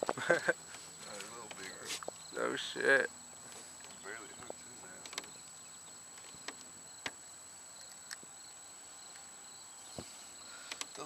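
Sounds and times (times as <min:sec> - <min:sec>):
high-pitched insect drone: 0:02.1 - 0:11.0.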